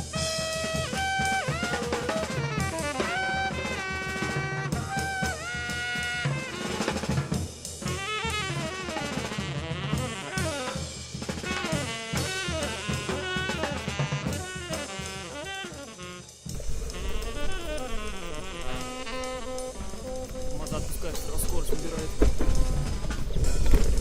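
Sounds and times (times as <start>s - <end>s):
drum kit beat: 0.0s - 24.0s.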